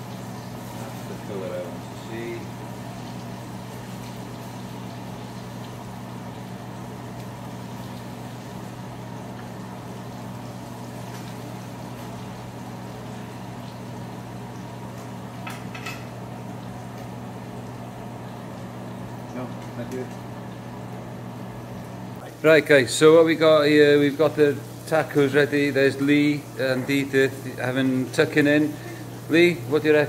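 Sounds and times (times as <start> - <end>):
food frying in oil: 0.0 - 30.0.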